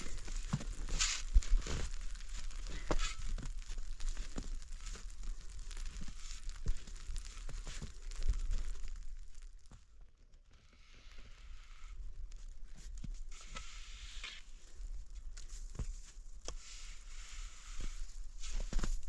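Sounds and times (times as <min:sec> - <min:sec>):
rustling crinkling handling noise: 0:00.0 - 0:10.2, 0:12.0 - 0:19.0
sharp clicks and crackles: 0:00.0 - 0:16.6.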